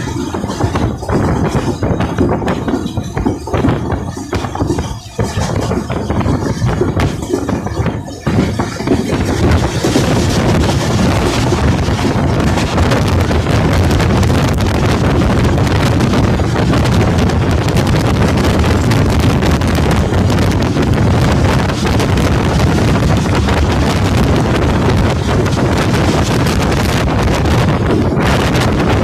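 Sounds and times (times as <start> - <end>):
train running on track: 0.0 - 29.0
wind buffeting microphone: 0.0 - 29.0.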